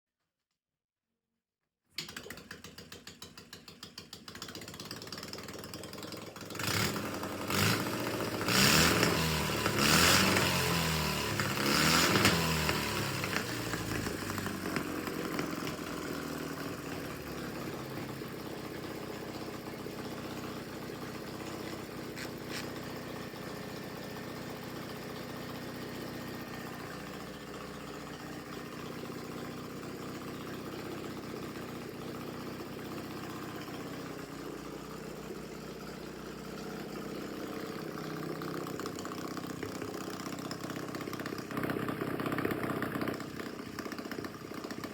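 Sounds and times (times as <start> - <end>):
motorcycle engine idling and revving: 2.0 - 44.9.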